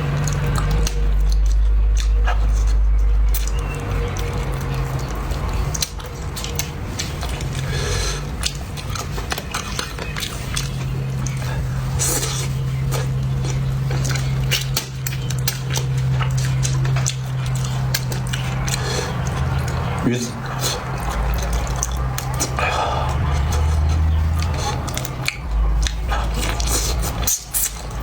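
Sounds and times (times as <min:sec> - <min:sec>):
person chewing: 0:00.0 - 0:28.0
steady low hum: 0:00.0 - 0:28.0.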